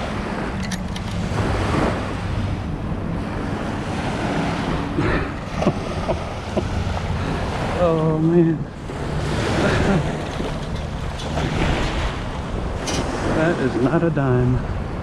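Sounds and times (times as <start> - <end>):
surf: 0.0 - 15.0
wind noise on microphone: 0.0 - 15.0.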